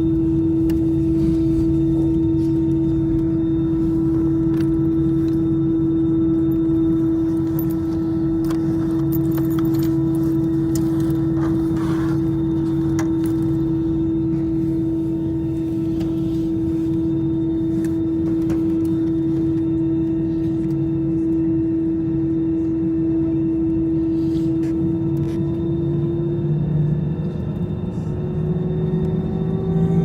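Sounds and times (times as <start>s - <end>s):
jet engines humming from cabin: 0.0s - 30.0s.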